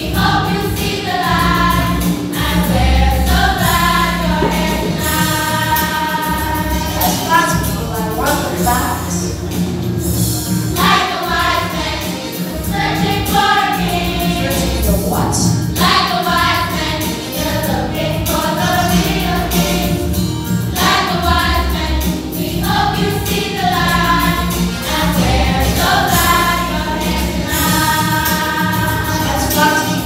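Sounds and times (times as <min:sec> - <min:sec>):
children's choir singing: 0:00.0 - 0:09.9, 0:10.7 - 0:30.0
accompanying music: 0:00.0 - 0:30.0.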